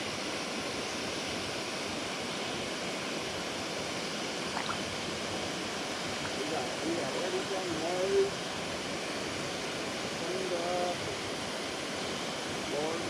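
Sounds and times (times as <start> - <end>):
water roaring through spillway: 0.0 - 13.0.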